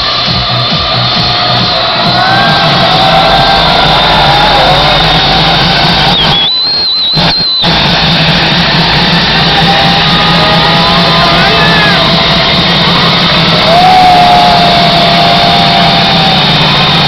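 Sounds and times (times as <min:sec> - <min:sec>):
distorted electronic dance music: 0:00.0 - 0:17.0
low bass hum: 0:00.0 - 0:17.0
high held synth note: 0:01.8 - 0:17.0.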